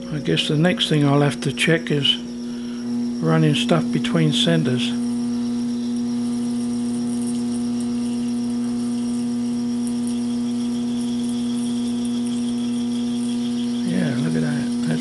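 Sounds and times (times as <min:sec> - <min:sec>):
lathe humming while drilling: 0:00.0 - 0:15.0.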